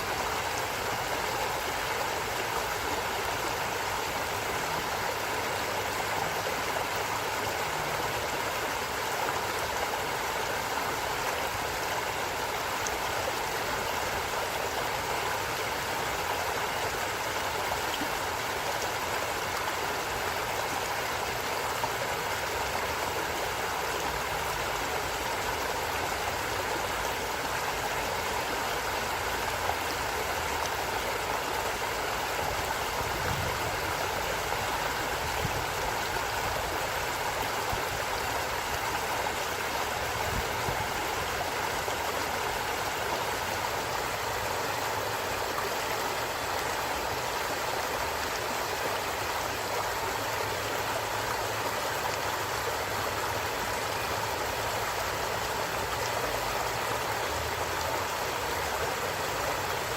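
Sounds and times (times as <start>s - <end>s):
water gurgling over rocks: 0.0s - 59.9s.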